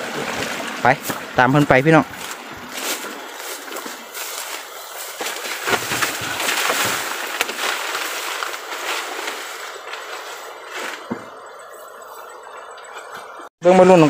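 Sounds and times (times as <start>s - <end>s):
grass and leaves rustling: 0.0s - 13.5s
water rushing and sloshing: 0.0s - 13.5s.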